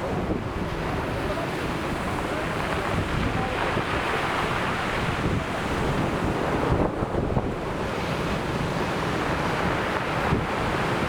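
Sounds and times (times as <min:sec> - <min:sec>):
sea surf washing on shore: 0:00.0 - 0:11.0
wind rumbling on microphone: 0:00.0 - 0:11.0.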